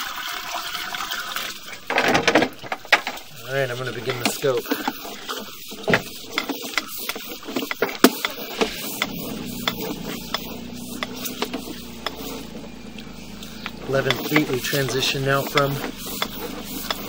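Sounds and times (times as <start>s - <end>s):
cable scraping: 1.8s - 17.0s
steady hiss: 2.9s - 17.0s.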